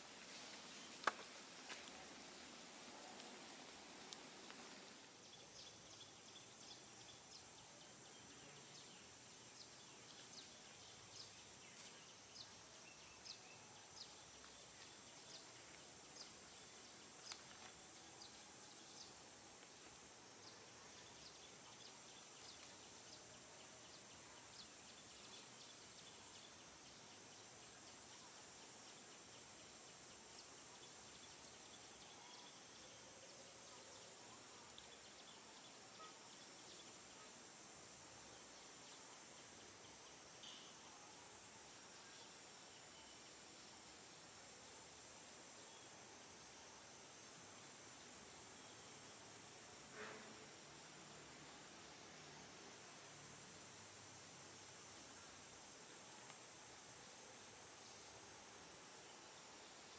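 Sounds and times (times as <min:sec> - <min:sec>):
high insect hum: 0:00.0 - 0:59.9.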